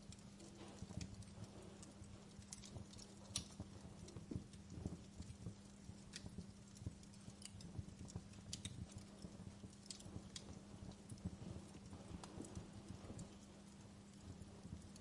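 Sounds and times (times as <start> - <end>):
faint steady hum: 0.0 - 15.0
wood fire crackling: 0.0 - 15.0.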